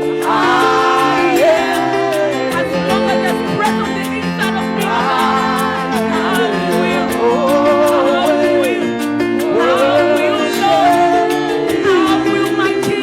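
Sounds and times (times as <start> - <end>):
band chords with steady beat: 0.0 - 13.0.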